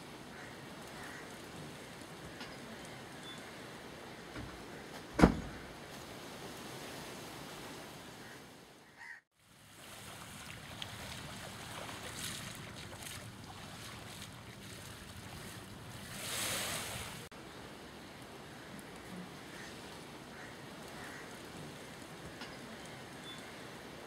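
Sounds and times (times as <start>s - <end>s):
waves lapping on a beach: 0.0s - 5.0s, 5.6s - 24.0s.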